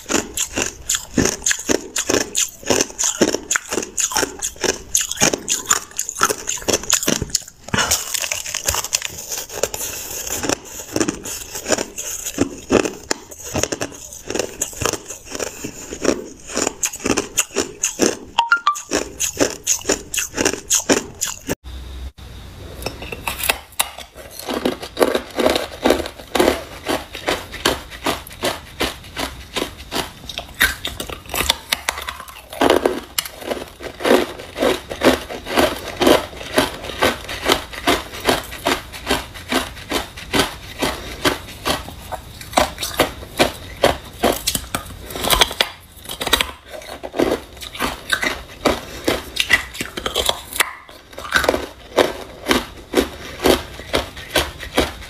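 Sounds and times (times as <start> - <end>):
ice being chewed: 0.0 - 21.6, 22.8 - 55.0.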